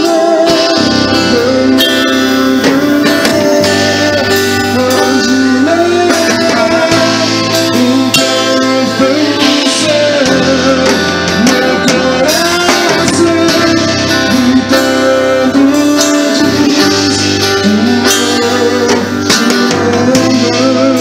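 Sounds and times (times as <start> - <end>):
guitar accompaniment: 0.0 - 21.0
man singing into microphone: 0.0 - 21.0.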